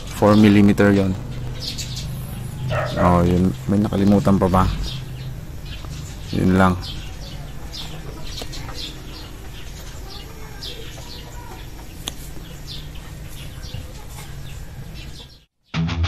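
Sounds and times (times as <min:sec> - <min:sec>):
low background hum: 0:00.0 - 0:15.4
birds chirping: 0:00.0 - 0:15.5.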